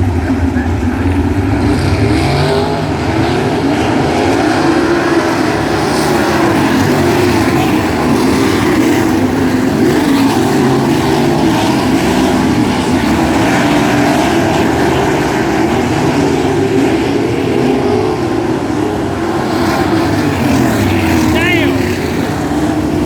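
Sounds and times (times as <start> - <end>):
racing car engines at speed: 0.0 - 23.0.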